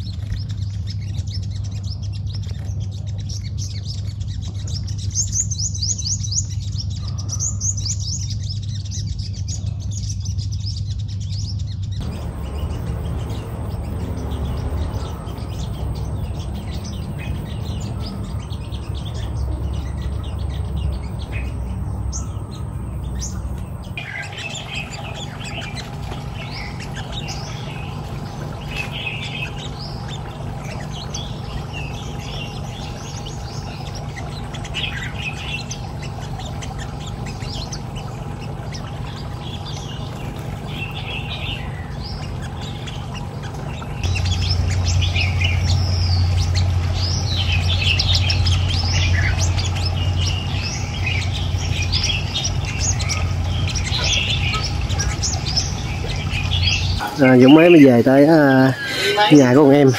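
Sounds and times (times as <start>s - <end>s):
birds chirping high calls: 0.0s - 59.9s
steady low rumble: 0.0s - 59.9s.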